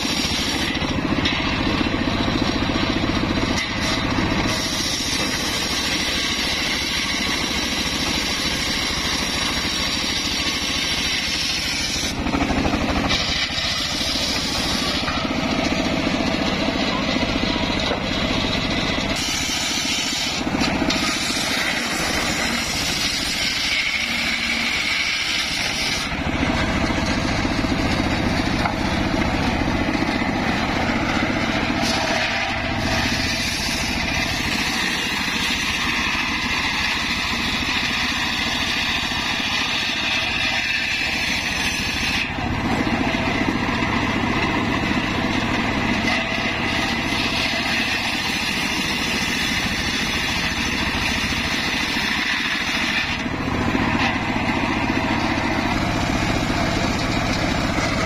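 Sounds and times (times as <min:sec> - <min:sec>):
circular saw ripping wood: 0:00.0 - 0:58.0.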